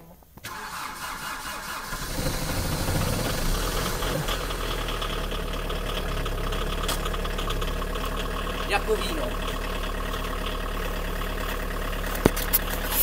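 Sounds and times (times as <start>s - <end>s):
starter motor cranking: 0.4s - 13.0s
diesel engine idling: 0.5s - 13.0s.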